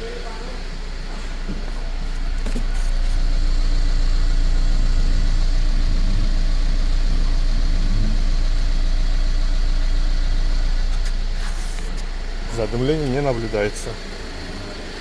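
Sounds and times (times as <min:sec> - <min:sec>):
petrol engine idling: 0:00.0 - 0:15.0.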